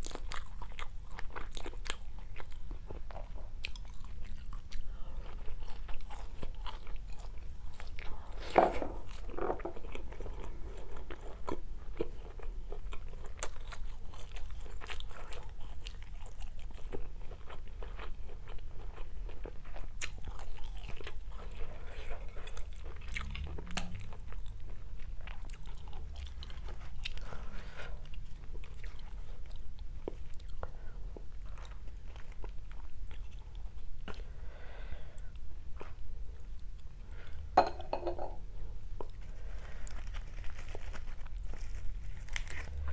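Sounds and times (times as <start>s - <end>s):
person chewing and biting food: 0.0s - 34.3s, 39.0s - 42.9s.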